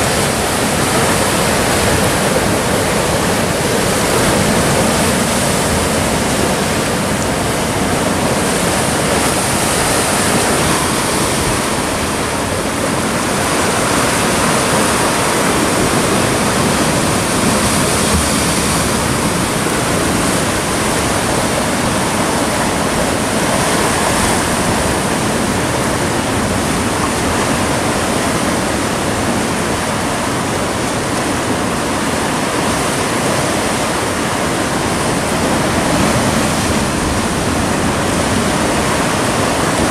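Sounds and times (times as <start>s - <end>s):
surf breaking over rocks: 0.0s - 39.9s.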